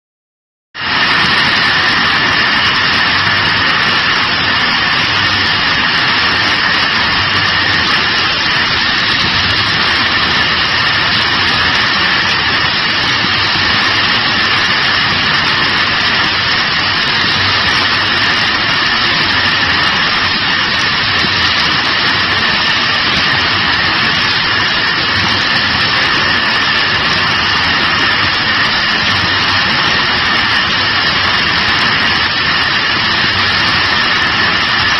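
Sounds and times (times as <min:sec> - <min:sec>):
high machine whines: 0:00.8 - 0:34.9.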